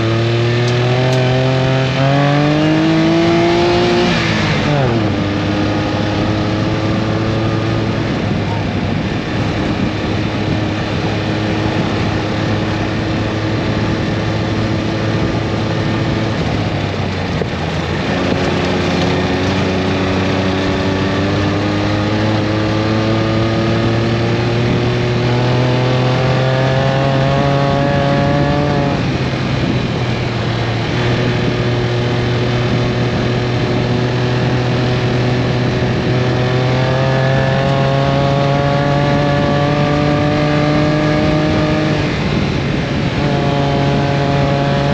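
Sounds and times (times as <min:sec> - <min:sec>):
vehicle engine running under load: 0:00.0 - 0:44.9.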